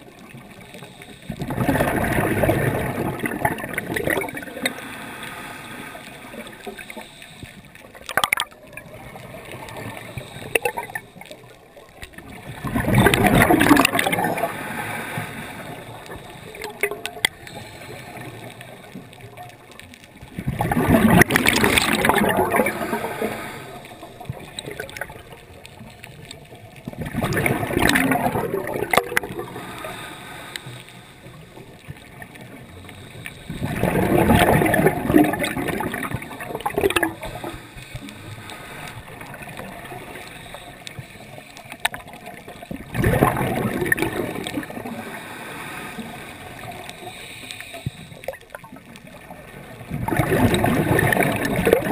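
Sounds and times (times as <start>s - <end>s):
low water rumble: 0.0s - 51.9s
underwater exhaled bubbles rushing: 0.0s - 51.9s.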